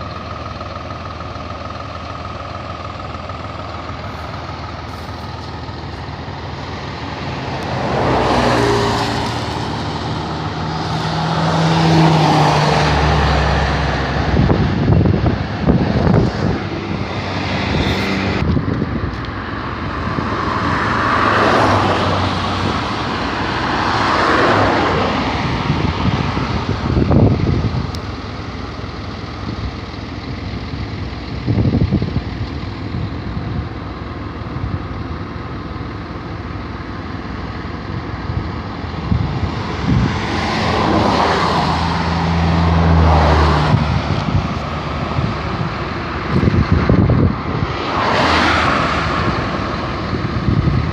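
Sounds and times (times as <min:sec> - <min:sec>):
vehicle with low engine note: 0:00.0 - 0:50.9
vehicles passing: 0:00.0 - 0:50.9.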